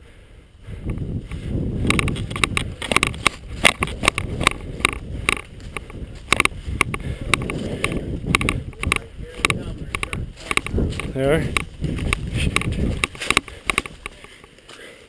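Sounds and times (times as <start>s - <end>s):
irregular clicks and clatter: 0.8s - 14.7s.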